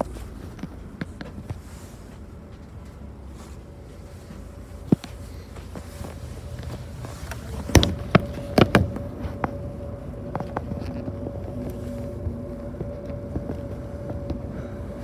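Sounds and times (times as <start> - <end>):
bus engine and road rumble: 0.0 - 15.0
thin whine: 0.0 - 15.0.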